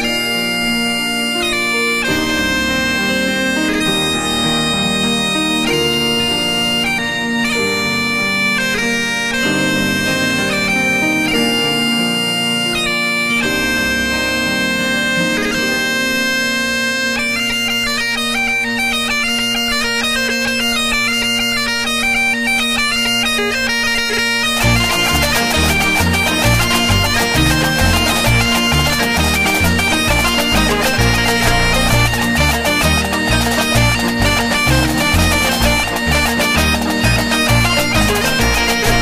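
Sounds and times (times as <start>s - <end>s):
bagpipes playing a tune: 0.0s - 39.0s.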